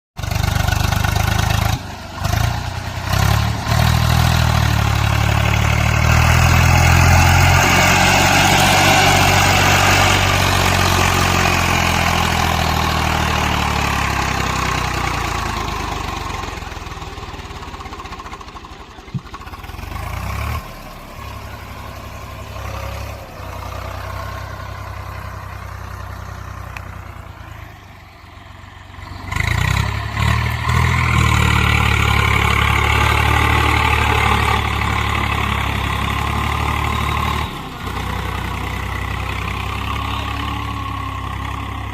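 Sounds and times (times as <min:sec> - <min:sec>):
tractor diesel engine running: 0:00.2 - 0:41.9.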